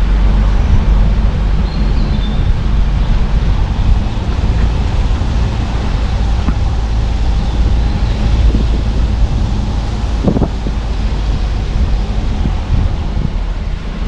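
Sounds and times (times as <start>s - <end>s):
car road and wind noise: 0.0s - 14.0s
deep engine rumble: 0.0s - 14.0s.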